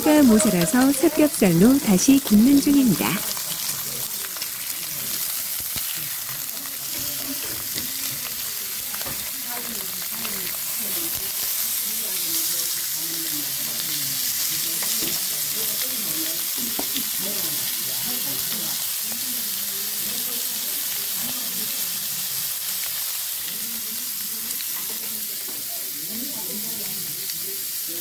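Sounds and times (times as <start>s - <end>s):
pork sizzling on grill: 0.0s - 28.0s.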